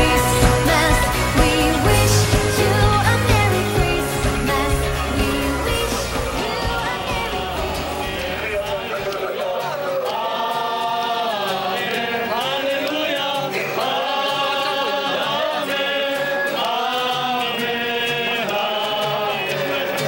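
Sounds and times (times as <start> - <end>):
group singing carol: 0.0 - 20.0.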